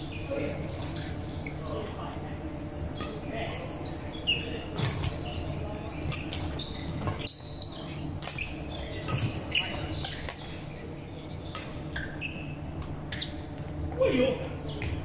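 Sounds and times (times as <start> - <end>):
shoes squeaking on court floor: 0.0 - 15.0.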